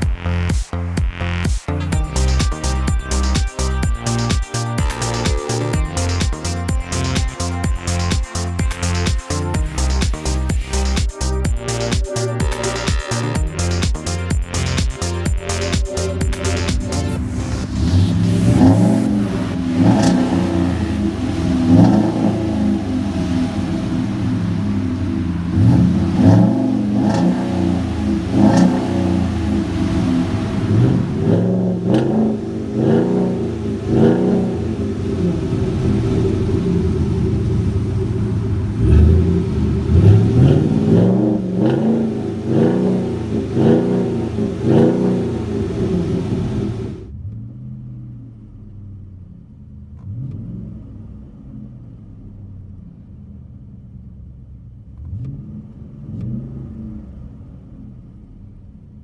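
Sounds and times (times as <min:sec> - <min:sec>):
truck engine idling and revving: 0:00.0 - 0:59.0.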